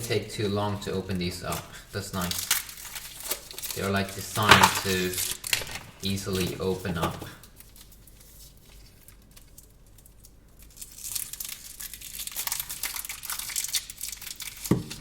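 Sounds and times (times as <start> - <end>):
chocolate wrappers crinkling and tearing: 0.0 - 15.0.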